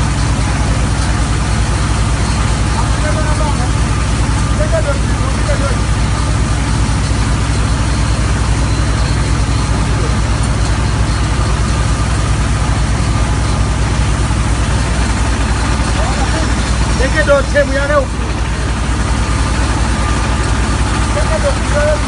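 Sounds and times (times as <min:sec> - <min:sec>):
drilling rig engine drone: 0:00.0 - 0:22.0.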